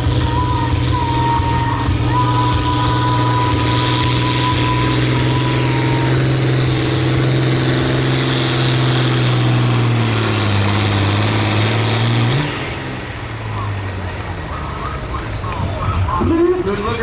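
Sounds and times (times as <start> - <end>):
tractor diesel engine at full throttle: 0.0 - 17.0.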